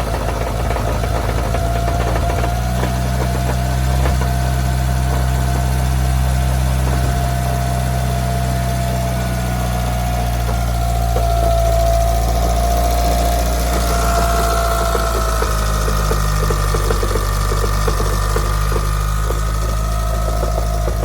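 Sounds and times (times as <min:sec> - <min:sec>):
engine idling with rattling knock: 0:00.0 - 0:21.0
steady whine: 0:00.0 - 0:21.0.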